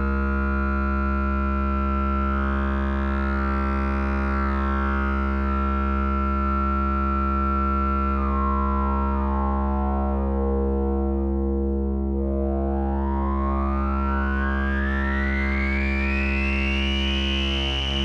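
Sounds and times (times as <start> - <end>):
analogue bass synthesizer drone: 0.0 - 18.0.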